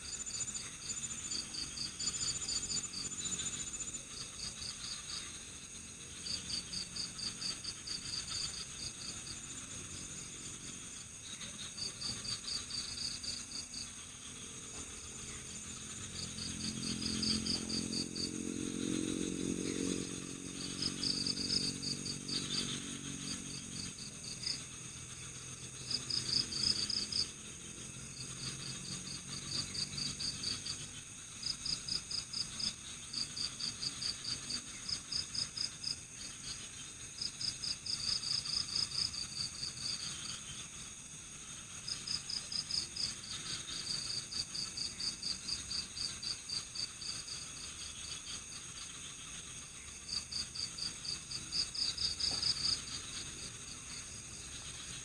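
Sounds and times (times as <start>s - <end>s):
crickets chirping: 0.0s - 55.0s
high-pitched insect drone: 0.0s - 55.0s.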